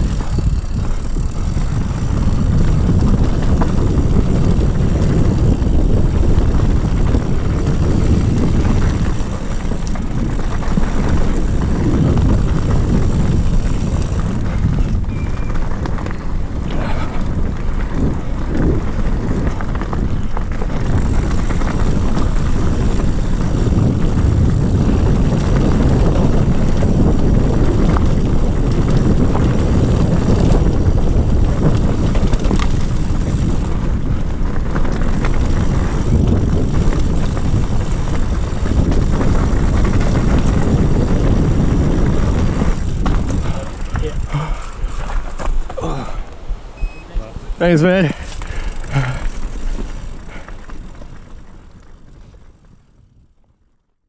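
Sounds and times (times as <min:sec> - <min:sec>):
bike knocking over bumps: 0:00.0 - 0:46.0
tyres rumbling on dirt: 0:00.0 - 0:53.1
wind on microphone: 0:00.0 - 0:53.6.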